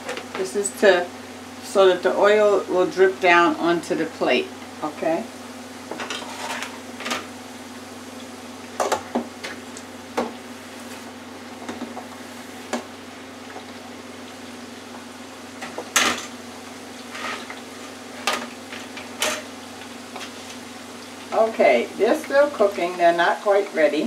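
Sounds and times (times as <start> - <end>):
oil bubbling in deep fryer: 0.0 - 24.0.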